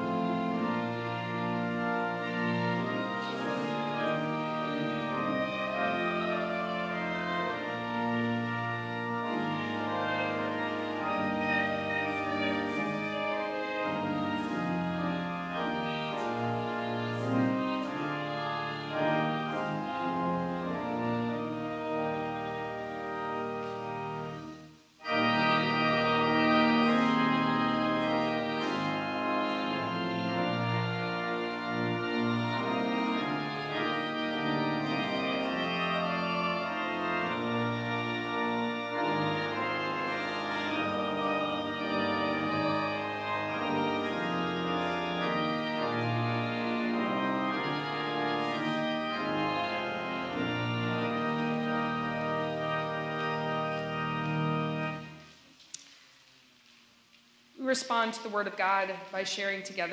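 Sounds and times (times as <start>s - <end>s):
church organ chords: 0.0s - 55.4s.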